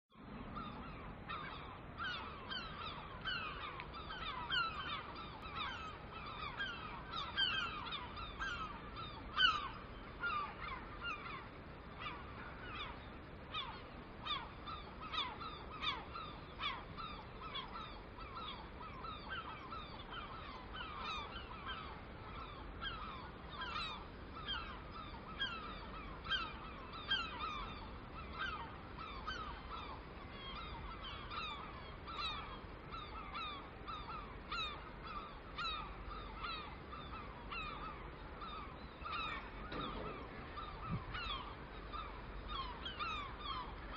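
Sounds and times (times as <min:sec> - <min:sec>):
flock of birds calling: 0:00.2 - 0:43.9.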